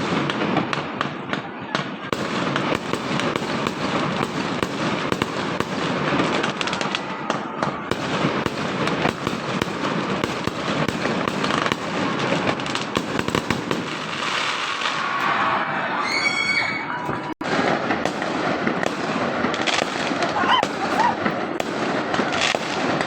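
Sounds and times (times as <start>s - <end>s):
fireworks and firecrackers bangs: 0.0s - 23.0s.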